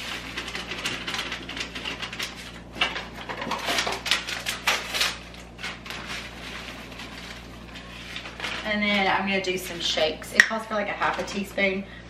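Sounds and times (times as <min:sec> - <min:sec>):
plastic packet crinkling: 0:00.0 - 0:09.9.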